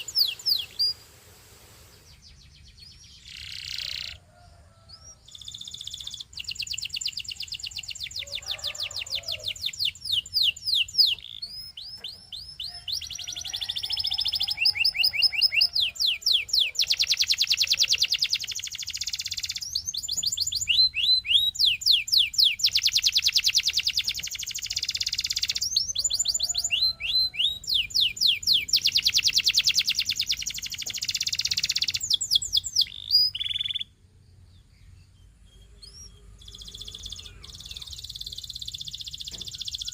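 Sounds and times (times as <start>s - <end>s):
canary singing trills: 0.0s - 1.0s, 2.0s - 39.9s.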